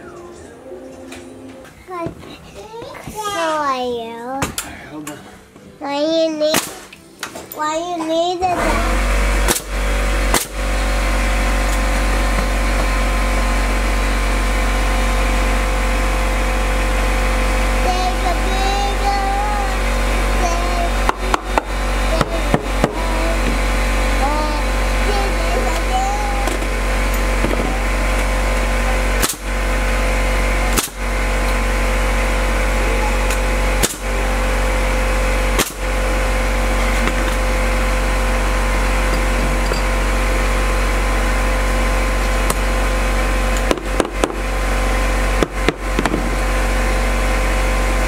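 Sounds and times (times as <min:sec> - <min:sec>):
machine humming: 0:00.0 - 0:48.0.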